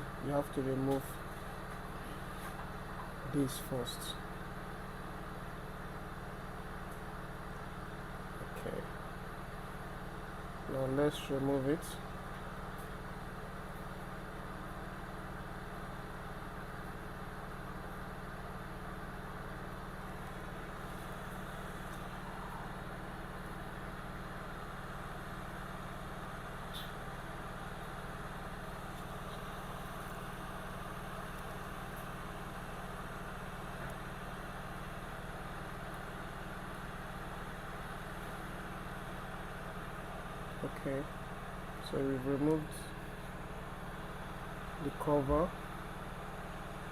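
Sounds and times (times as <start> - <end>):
electrical hum: 0.0 - 46.9
fan whirring: 0.0 - 46.9.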